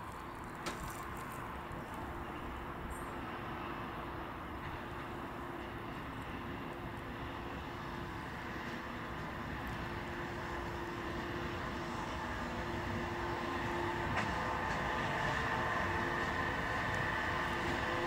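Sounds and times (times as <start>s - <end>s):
locomotive rumble: 0.0s - 18.0s.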